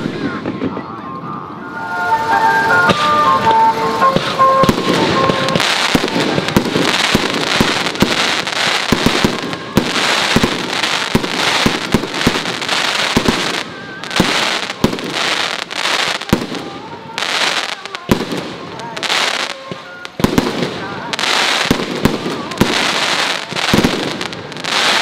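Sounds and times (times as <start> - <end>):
fireworks bangs: 0.0 - 25.0
fireworks crackling: 0.0 - 25.0.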